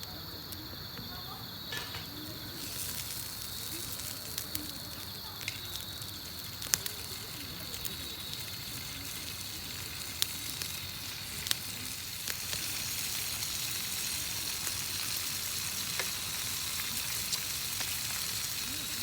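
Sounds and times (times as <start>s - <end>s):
campfire hissing: 0.0s - 19.0s
fire crackling pops: 0.0s - 19.0s.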